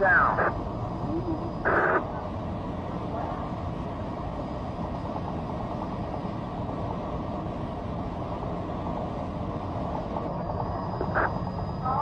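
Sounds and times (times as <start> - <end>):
muffled rumbling with hiss: 0.0 - 12.0.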